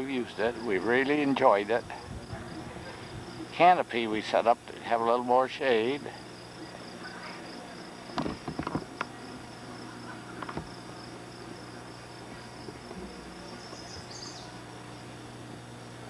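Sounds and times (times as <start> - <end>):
insect trilling: 0.0 - 4.6, 5.6 - 15.1
faint steady hum: 0.0 - 16.0.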